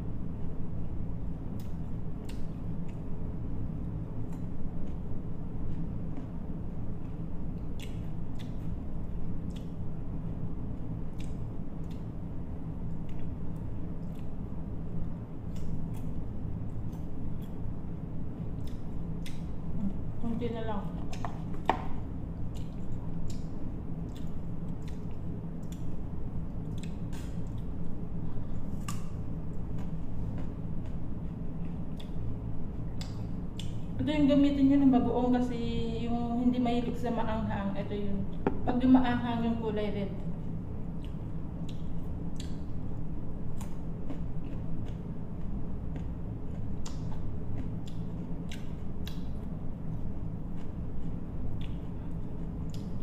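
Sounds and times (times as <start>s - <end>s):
low steady hum: 0.0s - 53.0s
crunchy chewing of mango slices: 1.4s - 20.2s, 21.0s - 34.0s, 40.4s - 53.0s.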